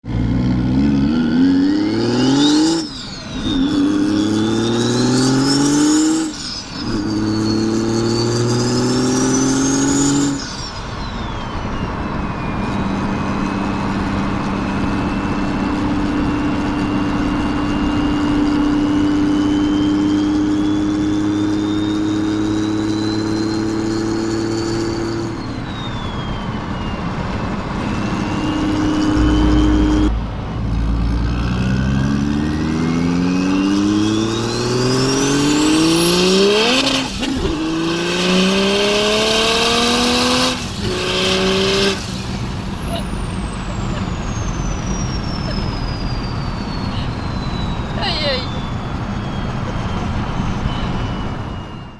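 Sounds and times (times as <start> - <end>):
diesel car engine accelerating: 0.0 - 51.9
turbo whine: 0.1 - 51.9.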